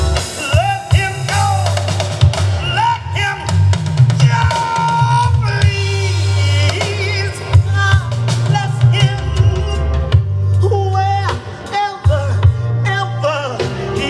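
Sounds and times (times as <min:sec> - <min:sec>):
bass line: 0:00.0 - 0:14.0
drum kit: 0:00.0 - 0:14.0
person singing: 0:00.0 - 0:14.0.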